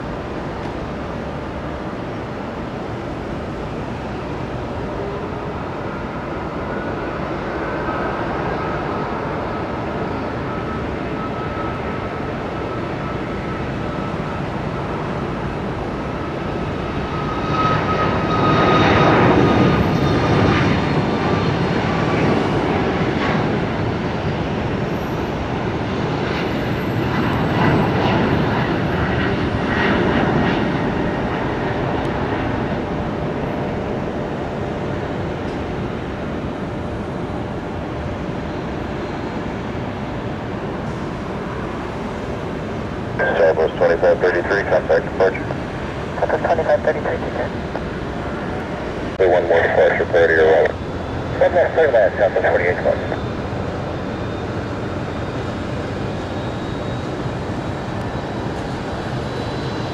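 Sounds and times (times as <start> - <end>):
high engine whine: 0.0 - 59.9
jet engines roaring: 0.0 - 59.9.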